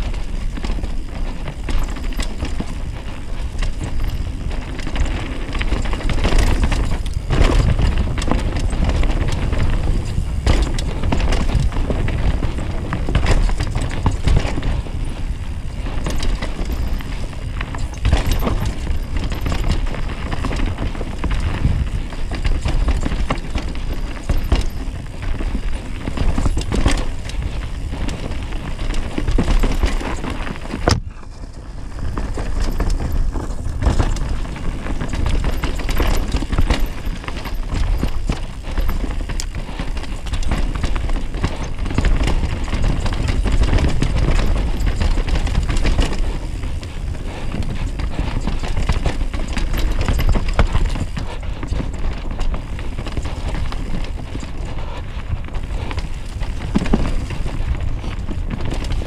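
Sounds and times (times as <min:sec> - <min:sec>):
bike frame and chain rattling: 0:00.0 - 0:59.0
bike tyres on dirt: 0:00.0 - 0:59.0
wind rumble on microphone: 0:00.0 - 0:59.0.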